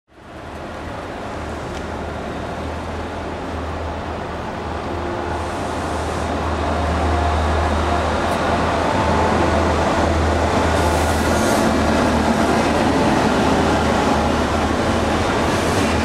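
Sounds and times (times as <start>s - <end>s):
diesel locomotive engine drone: 0.1s - 16.0s.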